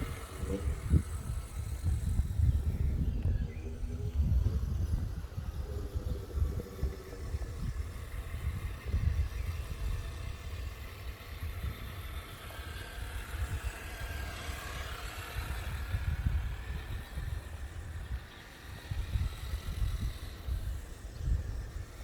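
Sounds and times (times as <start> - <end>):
electric motor whine: 0.0 - 22.0
low uneven rumble: 0.0 - 22.0.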